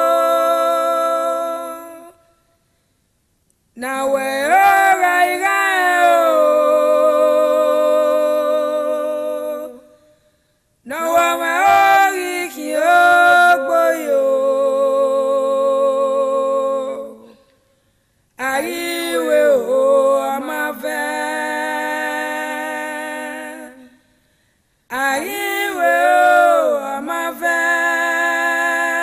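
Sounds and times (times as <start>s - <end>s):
women singing unaccompanied: 0.0s - 2.2s, 3.8s - 10.0s, 10.9s - 17.4s, 18.4s - 24.0s, 24.9s - 29.0s.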